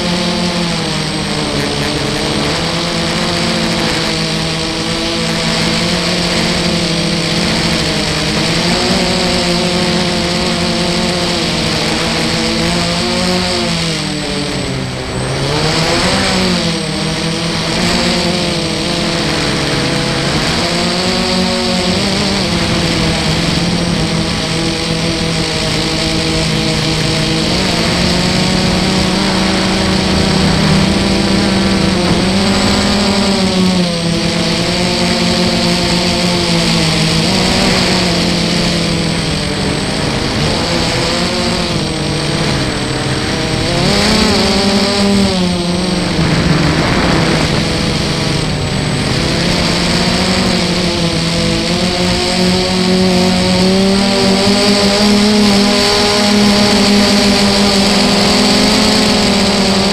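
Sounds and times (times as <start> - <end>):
drone motors buzzing whine: 0.0 - 59.9.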